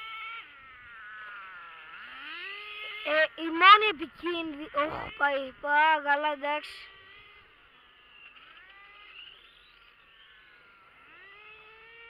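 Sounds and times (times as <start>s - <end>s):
radio-controlled motorcycle motor whine: 0.0s - 12.0s.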